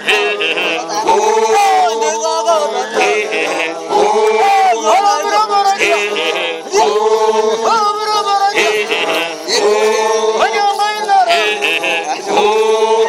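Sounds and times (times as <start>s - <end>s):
group chanting in held notes: 0.0s - 13.0s.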